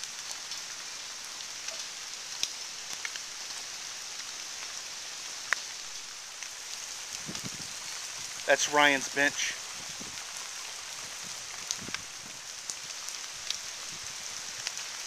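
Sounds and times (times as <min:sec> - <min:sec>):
sharp raindrops striking close: 0:00.0 - 0:15.0
steady rain falling: 0:00.0 - 0:15.0.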